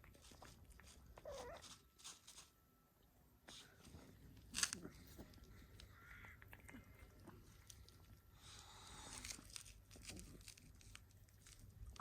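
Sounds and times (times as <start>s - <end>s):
cat chewing food: 0.0s - 2.4s, 3.9s - 12.0s.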